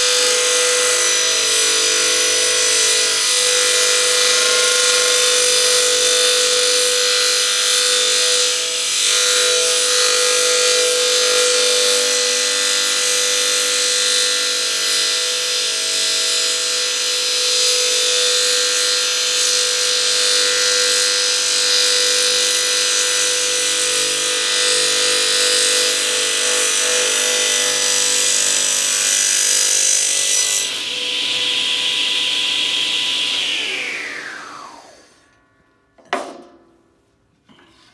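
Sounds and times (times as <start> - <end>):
circular saw cutting wood: 0.0 - 35.6.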